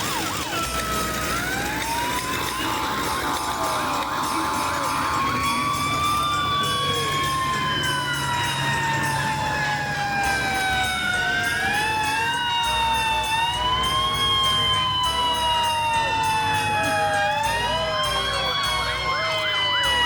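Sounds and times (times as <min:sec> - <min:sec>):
emergency sirens wailing: 0:00.0 - 0:20.0.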